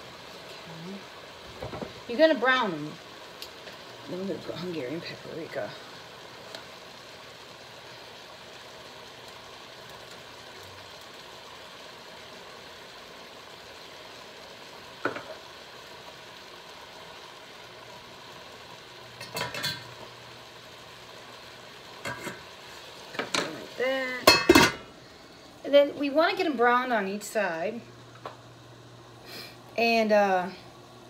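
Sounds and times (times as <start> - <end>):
chicken sizzling in a pan: 0.0 - 31.0.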